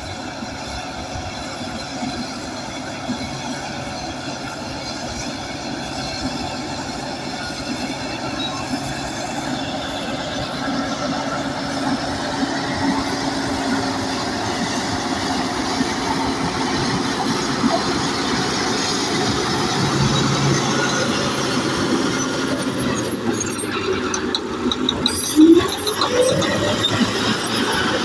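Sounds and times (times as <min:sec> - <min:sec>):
bulldozer diesel engine: 0:00.0 - 0:28.0
tracks and blade grinding soil: 0:00.0 - 0:28.0.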